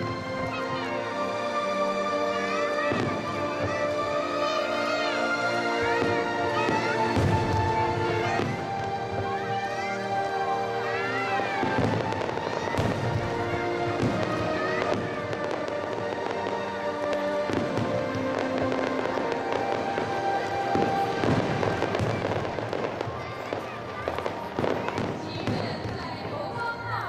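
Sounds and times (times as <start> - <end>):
music with long held notes: 0.0 - 27.0
fireworks bursting: 2.3 - 27.0.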